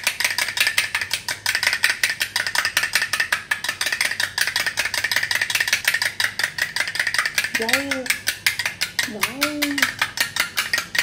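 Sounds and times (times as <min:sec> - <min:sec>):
spoon clicking on glass bowl: 0:00.1 - 0:11.0.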